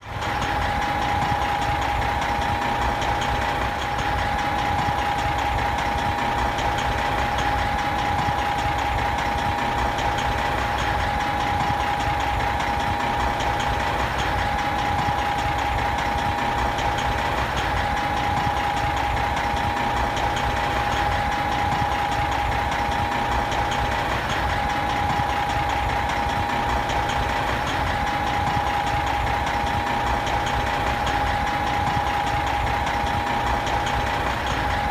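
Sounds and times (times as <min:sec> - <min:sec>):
constant whine: 0:00.0 - 0:34.9
diesel truck engine idling: 0:00.0 - 0:34.9.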